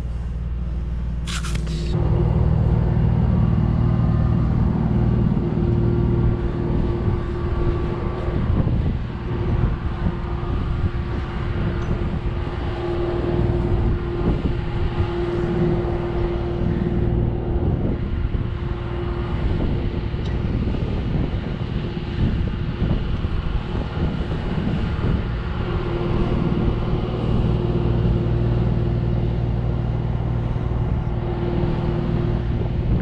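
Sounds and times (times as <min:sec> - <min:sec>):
boat machinery humming: 0:00.0 - 0:33.0
wind on microphone: 0:00.0 - 0:33.0.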